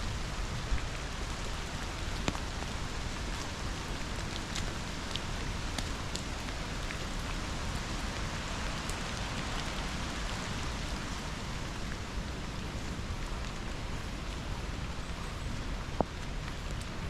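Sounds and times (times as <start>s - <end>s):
rushing water: 0.0s - 17.0s
steady rain: 0.0s - 17.0s.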